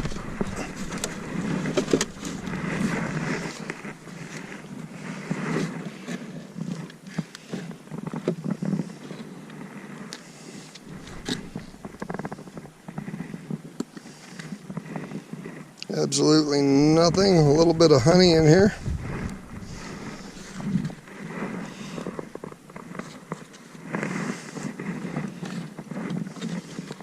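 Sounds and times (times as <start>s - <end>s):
wooden boxes scraping: 0.0s - 27.0s.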